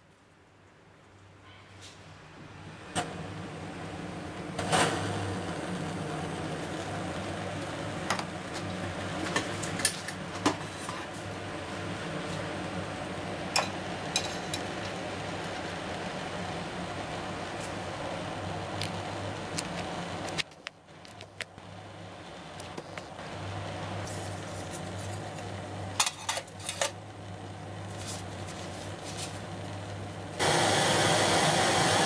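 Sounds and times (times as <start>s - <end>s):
gas stove burning: 2.6s - 32.0s.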